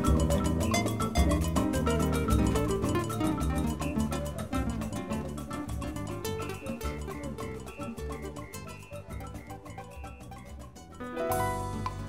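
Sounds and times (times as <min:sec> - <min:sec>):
instrumental jazz with steady beat: 0:00.0 - 0:12.0.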